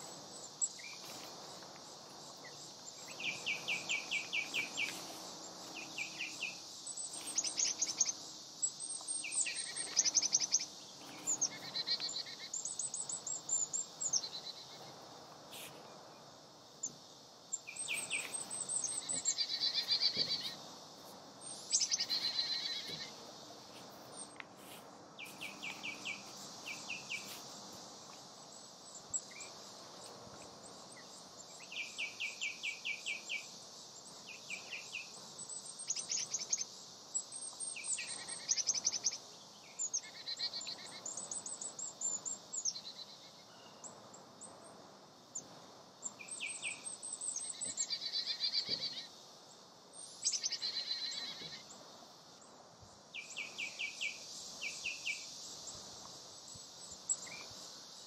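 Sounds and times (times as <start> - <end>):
birds chirping and twittering: 0.0 - 44.8, 45.4 - 58.0
faint steady hiss: 0.0 - 58.0.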